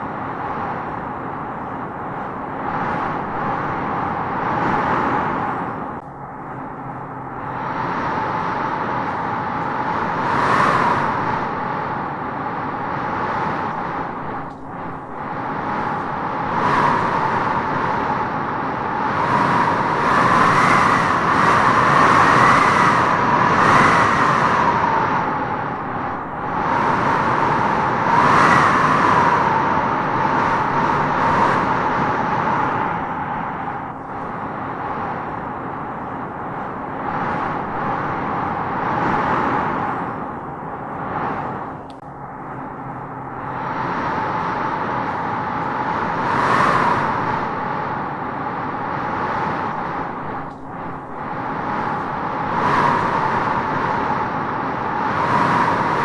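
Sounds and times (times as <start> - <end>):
wind gusts whistling: 0.0 - 56.0.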